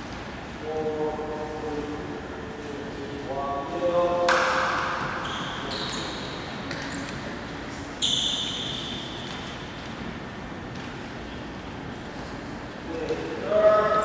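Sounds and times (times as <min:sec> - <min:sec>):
gymnasium ambience: 0:00.0 - 0:14.0.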